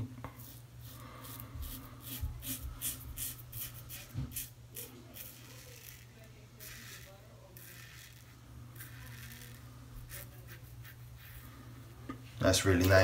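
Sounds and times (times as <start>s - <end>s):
razor scraping stubble: 0.4s - 11.5s.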